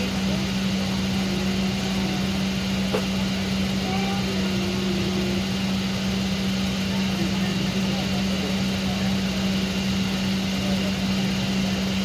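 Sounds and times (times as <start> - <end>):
aircraft cabin drone: 0.0 - 12.0
voices murmuring: 0.0 - 12.0.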